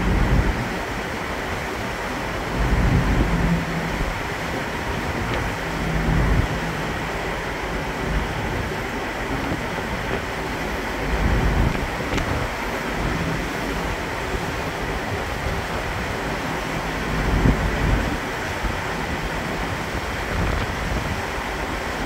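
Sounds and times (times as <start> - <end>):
ship engines humming: 0.0 - 22.0
wind buffeting microphone: 0.0 - 22.0.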